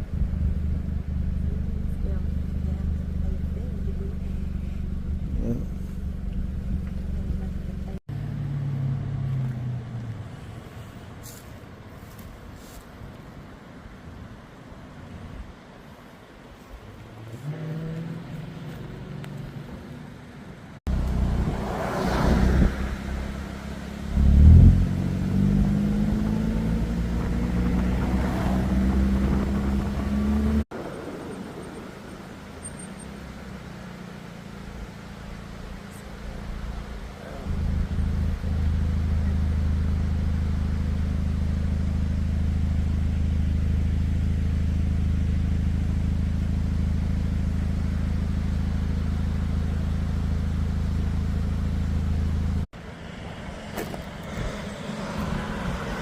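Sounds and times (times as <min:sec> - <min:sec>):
car engine accelerating: 0:00.0 - 0:11.2, 0:17.0 - 0:56.0.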